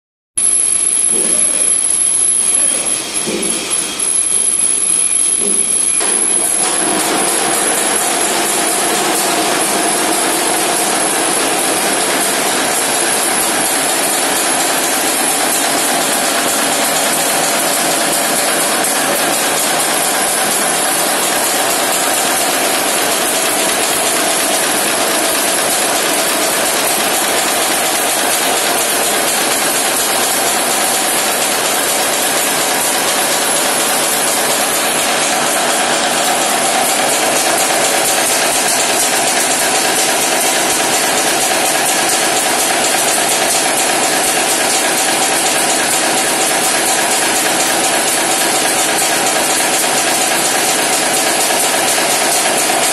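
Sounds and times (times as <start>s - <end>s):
nail making machine clatter: 0.4s - 52.9s.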